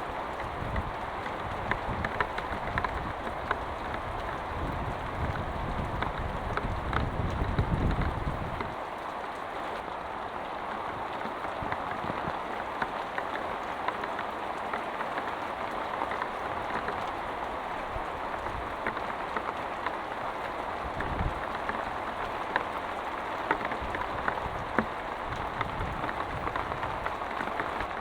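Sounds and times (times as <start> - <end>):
raindrops ticking: 0.0 - 28.0.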